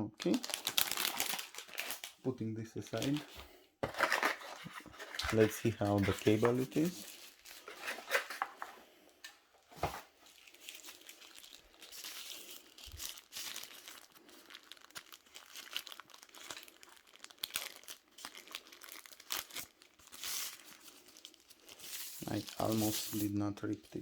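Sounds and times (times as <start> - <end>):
packaging crinkling and rustling: 0.2 - 2.2, 2.8 - 8.8, 9.6 - 24.0.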